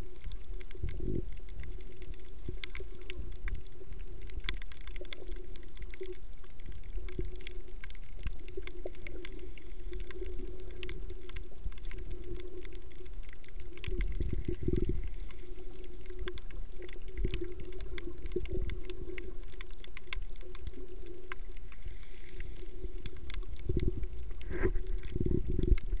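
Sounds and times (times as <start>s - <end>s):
faint crackling clicks: 0.0s - 26.0s
low water surges: 0.0s - 26.0s
underwater water wash: 0.0s - 26.0s.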